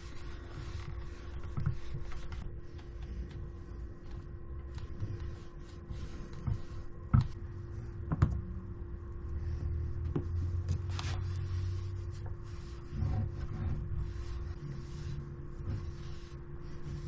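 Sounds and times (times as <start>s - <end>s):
scratchy rubbing on wood: 0.0s - 7.4s, 9.4s - 17.0s
steady hum: 0.0s - 17.0s.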